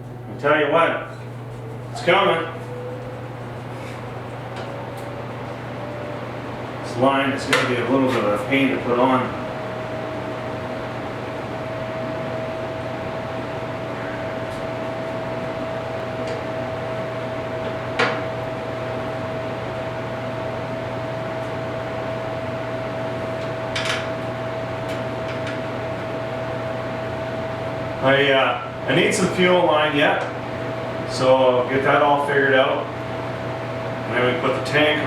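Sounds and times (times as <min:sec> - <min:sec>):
mechanical hum with whine: 0:00.0 - 0:35.0.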